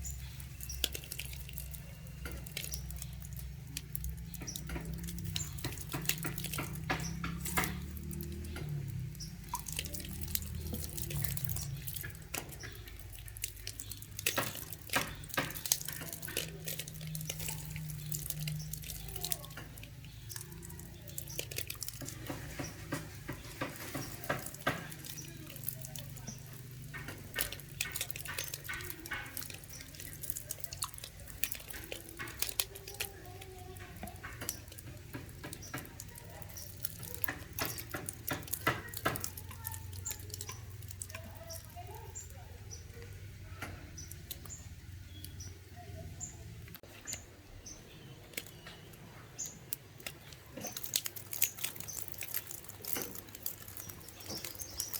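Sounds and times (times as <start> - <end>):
water splashing and dripping: 0.0 - 54.9.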